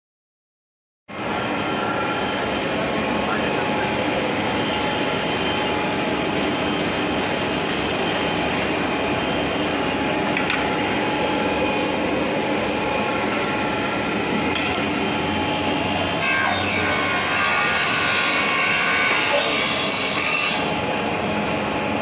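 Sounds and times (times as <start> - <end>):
wood planer running: 1.1 - 22.0.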